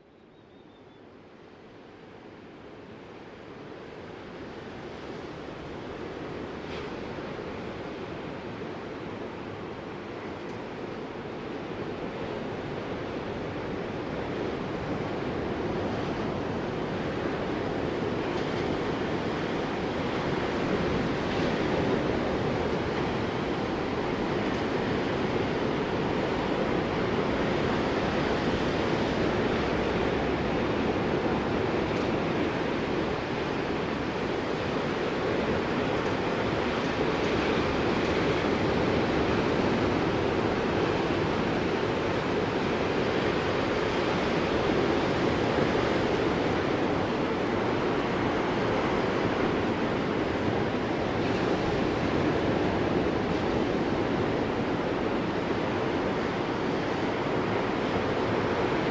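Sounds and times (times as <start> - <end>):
ocean waves washing onto shore: 4.0 - 58.9.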